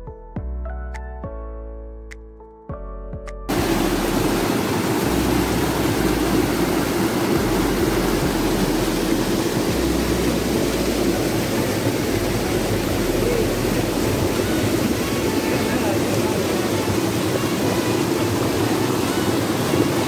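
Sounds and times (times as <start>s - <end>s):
water rushing over rocks: 3.5s - 20.0s.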